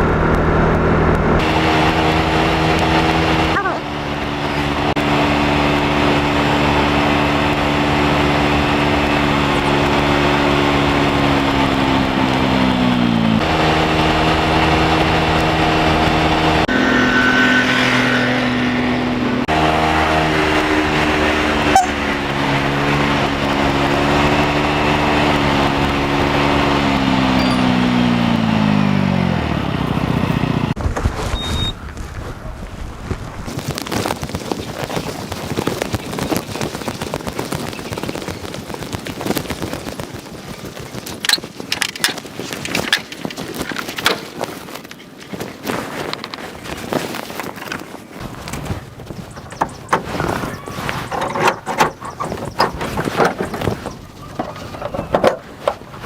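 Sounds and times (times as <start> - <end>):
car engine running: 0.0 - 45.0, 46.0 - 56.0.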